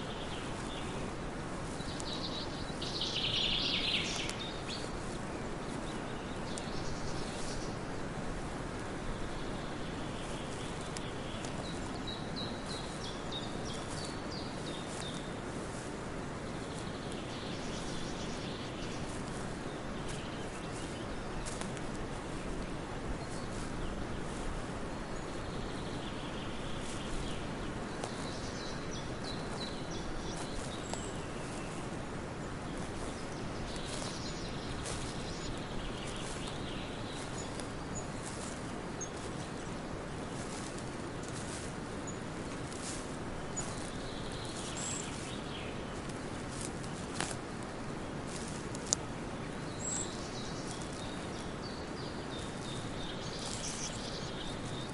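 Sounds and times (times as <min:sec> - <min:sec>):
footsteps crunching on trail: 0:00.0 - 0:54.9
small birds chirping: 0:00.0 - 0:54.9
steady rustling hiss: 0:00.0 - 0:54.9.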